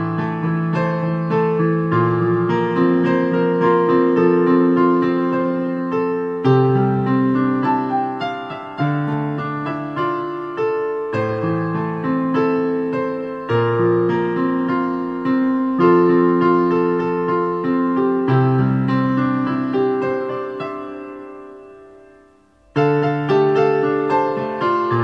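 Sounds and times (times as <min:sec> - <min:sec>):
slow gentle piano melody: 0:00.0 - 0:25.0.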